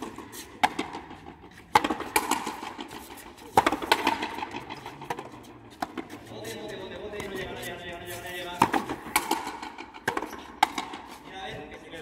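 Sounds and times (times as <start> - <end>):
ball smacking rackets and wall: 0.0 - 12.0.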